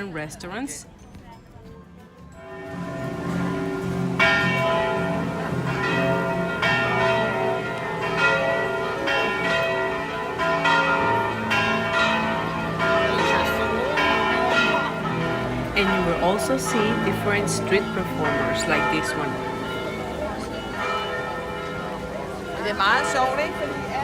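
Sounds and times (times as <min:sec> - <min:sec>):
bells ringing: 0:00.6 - 0:24.0.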